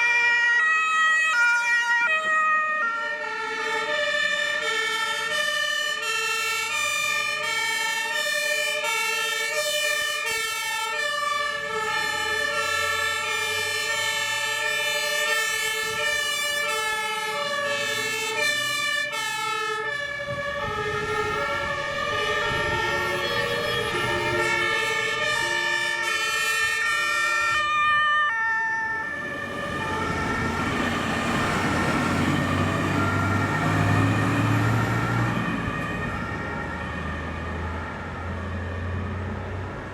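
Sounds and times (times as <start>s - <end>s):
two-tone fire engine siren: 0.0s - 39.9s
vehicle engine and road noise: 2.0s - 39.9s.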